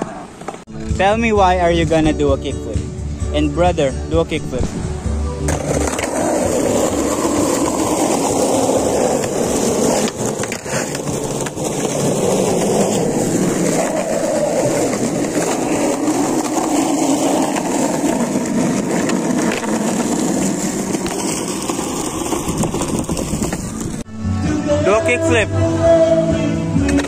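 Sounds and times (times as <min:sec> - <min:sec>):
skateboard wheels on concrete: 0:00.0 - 0:02.8, 0:04.6 - 0:24.1.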